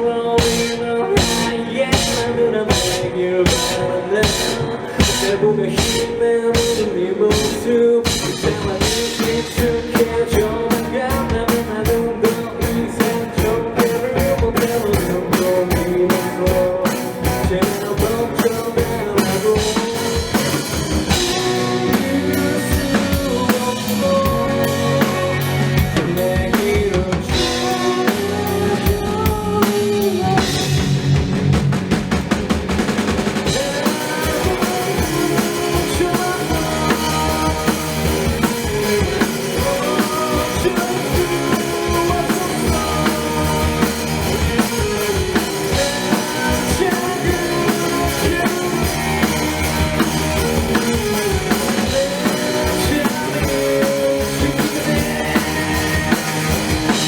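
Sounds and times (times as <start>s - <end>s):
drum kit: 0.0s - 57.0s
live rock band: 0.0s - 57.0s.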